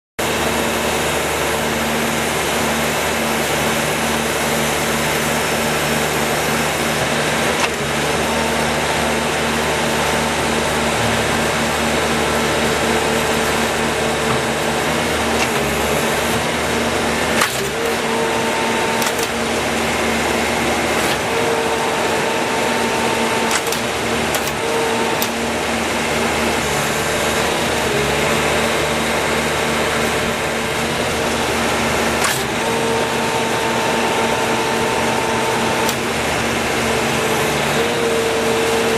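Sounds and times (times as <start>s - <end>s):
skid steer loader running: 0.2s - 38.9s.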